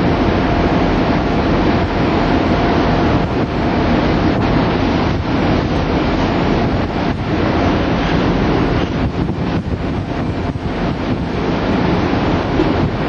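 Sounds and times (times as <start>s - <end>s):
rush of the sea: 0.0s - 13.0s
wind on microphone: 0.0s - 13.0s.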